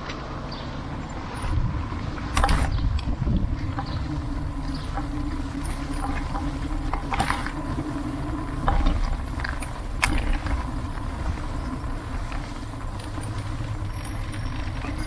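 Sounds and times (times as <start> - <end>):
trike rolling over brick paving: 0.9 - 15.0
wind on microphone: 0.9 - 15.0
frame clicks and rattles: 1.1 - 15.0.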